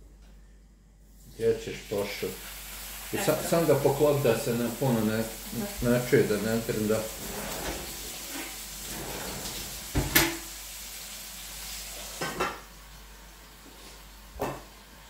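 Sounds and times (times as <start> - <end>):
steak sizzling in a pan: 1.6 - 15.0.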